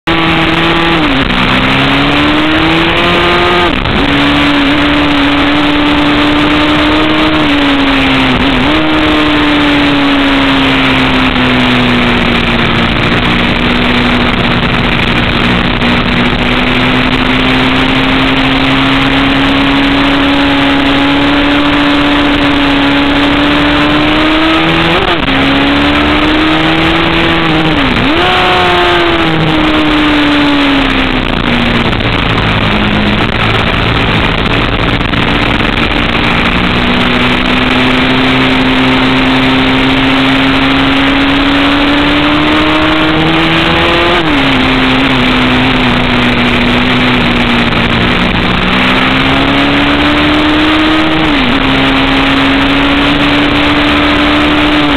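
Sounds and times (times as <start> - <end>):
motorcycle engine at high revs: 0.0 - 54.9
wind rush: 0.0 - 54.9.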